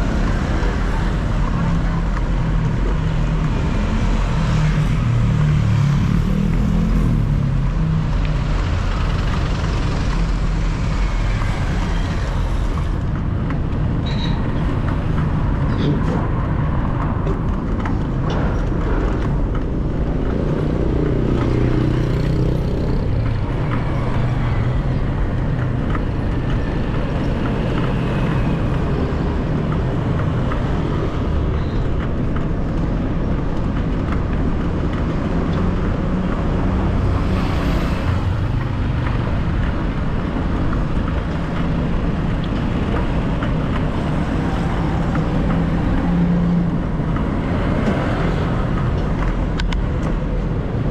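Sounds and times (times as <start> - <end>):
car and motorcycle engines passing: 0.0 - 13.8, 14.8 - 50.9
road noise rumble: 0.0 - 50.9.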